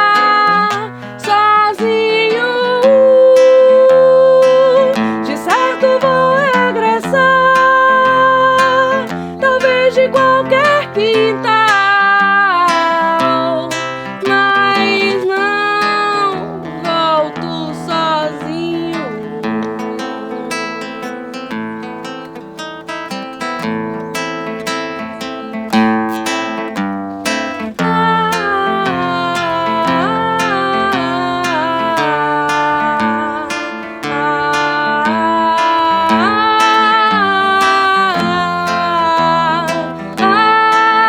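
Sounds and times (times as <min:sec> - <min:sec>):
woman singing held notes: 0:00.0 - 0:21.0, 0:27.8 - 0:41.0
acoustic guitar: 0:00.0 - 0:41.0.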